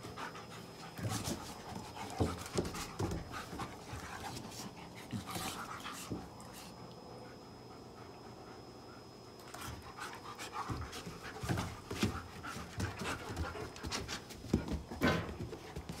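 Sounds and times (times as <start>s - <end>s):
dogs scuffling on wooden deck: 0.0s - 6.7s, 9.4s - 16.0s
dogs panting: 0.0s - 16.0s.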